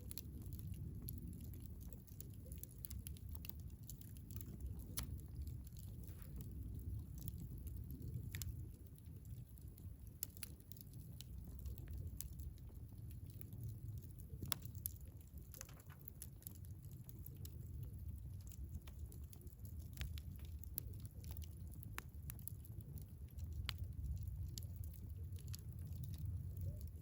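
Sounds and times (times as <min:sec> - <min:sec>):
low fire rumble: 0:00.0 - 0:27.0
wood fire crackling and popping: 0:00.0 - 0:27.0.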